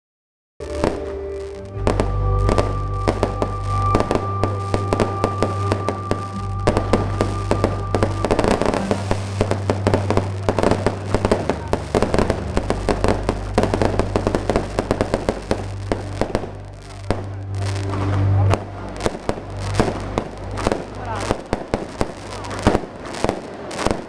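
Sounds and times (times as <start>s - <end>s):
steady low hum: 0.6s - 21.2s
fireworks bursting with crackles: 0.6s - 24.0s.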